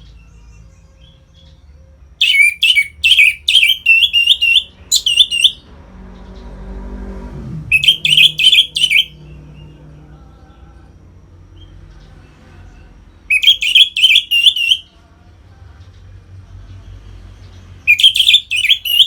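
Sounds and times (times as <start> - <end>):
thrush singing: 0.0 - 6.6, 7.6 - 19.0.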